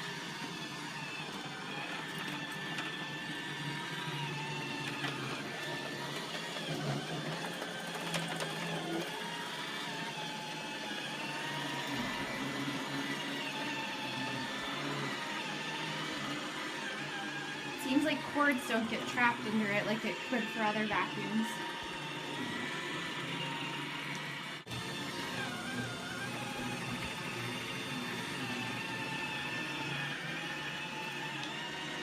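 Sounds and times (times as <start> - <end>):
robot vacuum motor and brush drone: 0.0 - 32.0.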